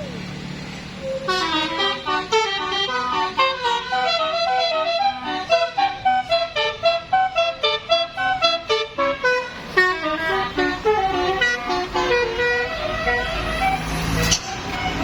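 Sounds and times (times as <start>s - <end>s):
bus engine rumbling: 0.0s - 15.0s
bus air horn playing a tune: 1.2s - 15.0s.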